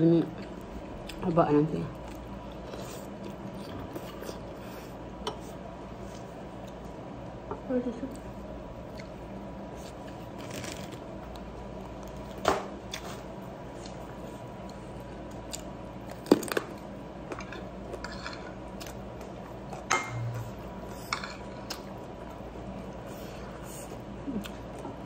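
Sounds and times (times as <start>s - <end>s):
person chewing: 2.0s - 7.0s, 8.1s - 16.8s, 17.4s - 25.0s.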